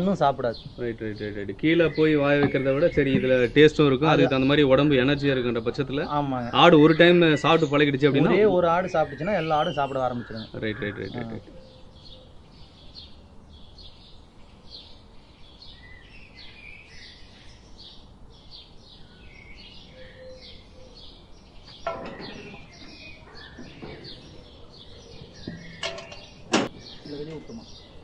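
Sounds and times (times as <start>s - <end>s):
faint background hiss: 0.0s - 28.0s
small birds chirping: 0.0s - 28.0s.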